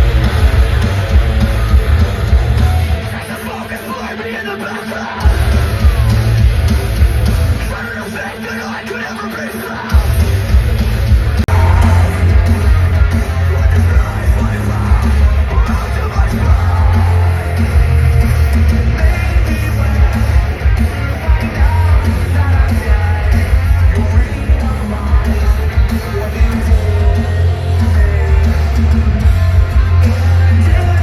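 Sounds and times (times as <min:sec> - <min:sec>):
live rock band playing: 0:00.0 - 0:31.0
vocalist yelling and singing: 0:02.7 - 0:06.4, 0:07.6 - 0:10.3, 0:11.3 - 0:31.0.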